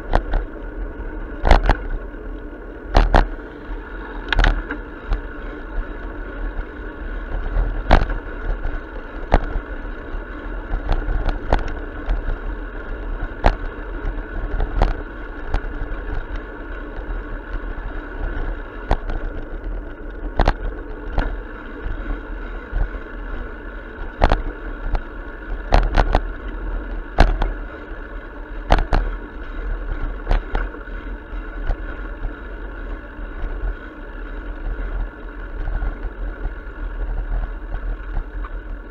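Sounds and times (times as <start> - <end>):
bicycle clicks and knocks: 0.0 - 38.9
wind and rolling tyres rumble: 0.0 - 38.9.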